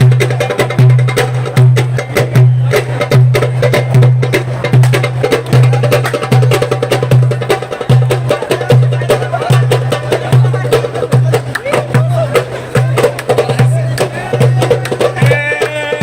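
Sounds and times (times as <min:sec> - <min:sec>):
fast goblet drum rhythm: 0:00.0 - 0:16.0.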